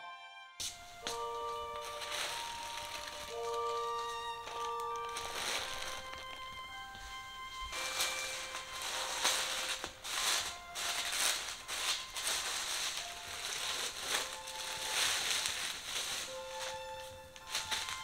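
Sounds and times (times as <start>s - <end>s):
soft background music: 0.0s - 18.0s
rustling and crinkling: 0.6s - 18.0s.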